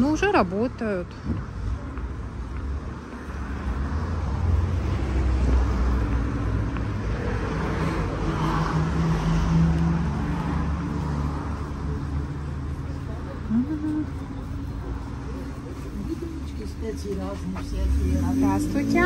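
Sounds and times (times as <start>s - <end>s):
car engine passing slowly: 1.0s - 19.0s.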